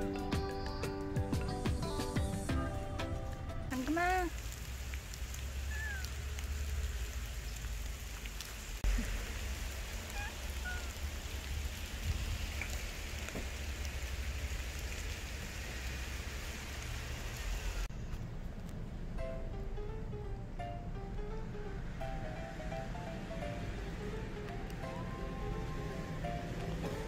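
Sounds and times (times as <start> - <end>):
light rain hissing: 0.0 - 19.0, 21.6 - 27.0.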